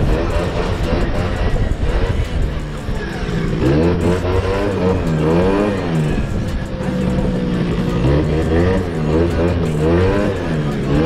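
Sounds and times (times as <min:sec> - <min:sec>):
small two-stroke engine revving: 0:00.0 - 0:11.0.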